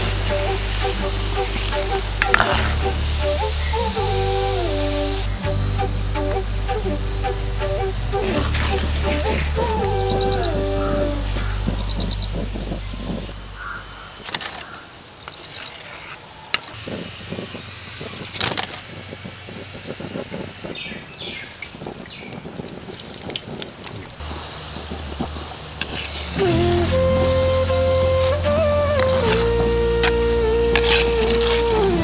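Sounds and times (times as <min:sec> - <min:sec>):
high-pitched insect drone: 0:00.0 - 0:23.2, 0:24.0 - 0:32.0
light crackling: 0:00.0 - 0:32.0.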